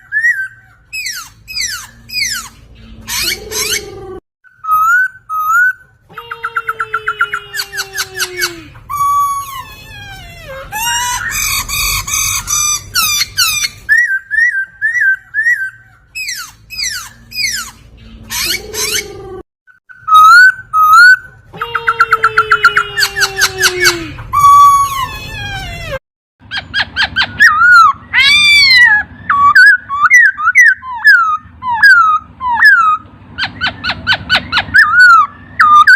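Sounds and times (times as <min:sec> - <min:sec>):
laughingthrush singing: 0:00.0 - 0:35.9.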